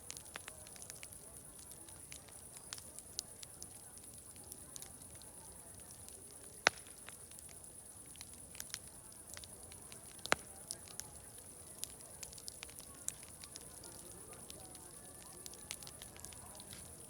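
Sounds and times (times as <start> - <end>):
loud pops of fire: 0.0 - 17.0
wood fire crackling: 0.0 - 17.0.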